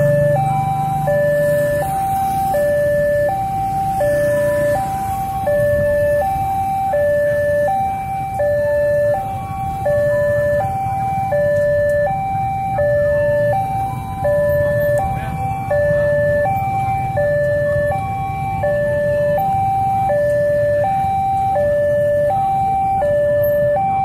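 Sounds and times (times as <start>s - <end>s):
idling traffic rumble: 0.0s - 24.0s
two-tone crossing alarm: 0.0s - 24.0s.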